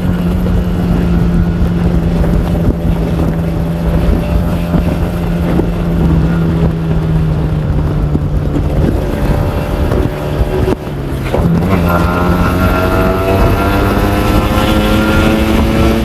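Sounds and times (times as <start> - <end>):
two-stroke engine at high revs: 0.0 - 16.0.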